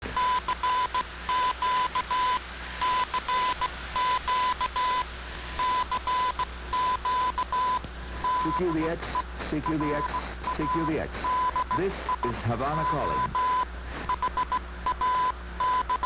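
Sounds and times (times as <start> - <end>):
morse code beeps: 0.2 - 5.0, 5.6 - 16.0.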